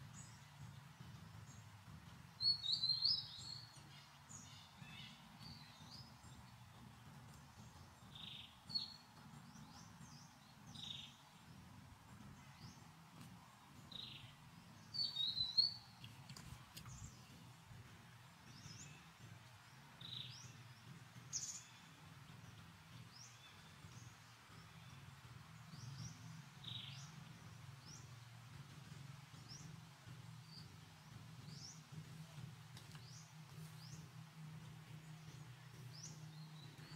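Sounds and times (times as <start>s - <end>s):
faint low hum: 0.0s - 36.9s
small birds chirping: 0.0s - 36.9s.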